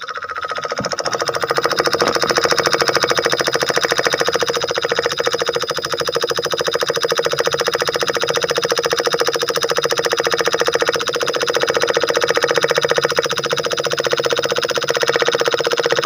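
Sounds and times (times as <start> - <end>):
miniature diesel engine running: 0.0 - 16.0.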